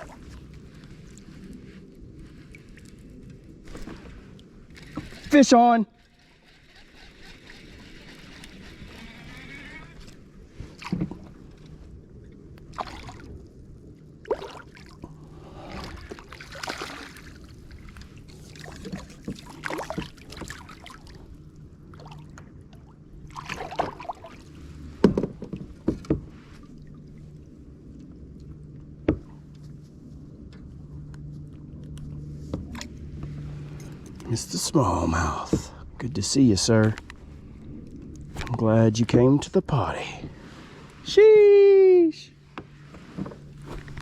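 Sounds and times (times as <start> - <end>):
water splashing and sloshing: 0.0 - 41.2, 42.3 - 44.0.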